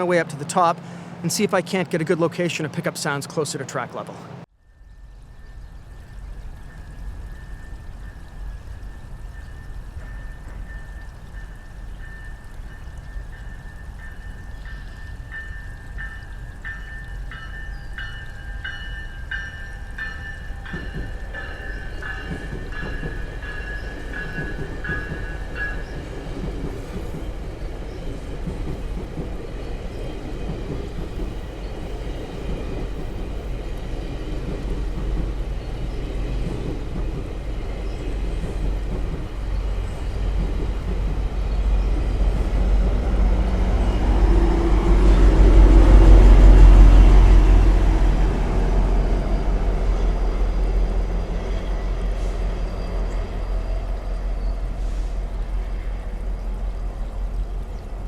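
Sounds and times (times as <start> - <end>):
passing train rumble: 0.0 - 58.0.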